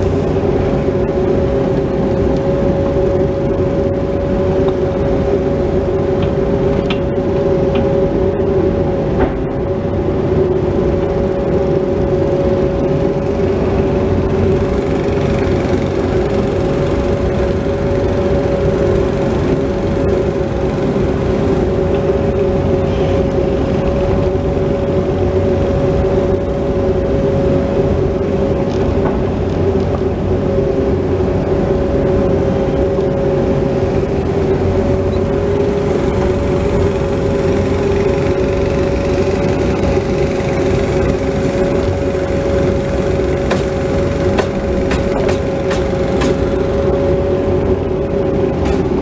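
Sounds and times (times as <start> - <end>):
excavator diesel engine rumbling: 0.0 - 49.0
hydraulic whine: 0.0 - 49.0.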